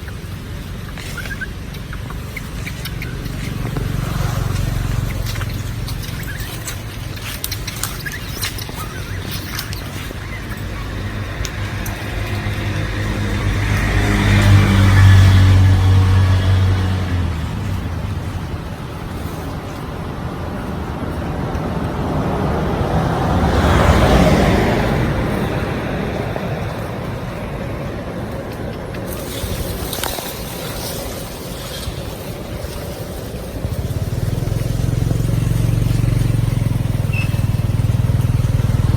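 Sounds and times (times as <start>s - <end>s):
vehicle engine hum: 0.0s - 38.9s
vehicle rushing past: 2.3s - 38.9s.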